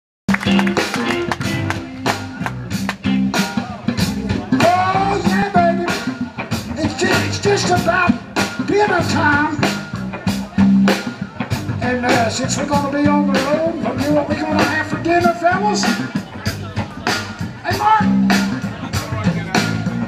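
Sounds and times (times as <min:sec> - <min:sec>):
blues band playing: 0:00.3 - 0:20.0
drums steady beat: 0:00.3 - 0:20.0
walking bass line: 0:00.3 - 0:20.0.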